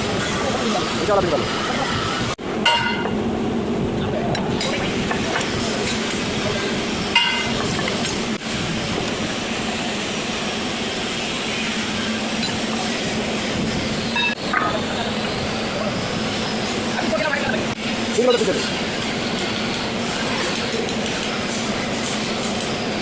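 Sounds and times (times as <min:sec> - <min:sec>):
mechanical background noise: 0:00.0 - 0:23.0.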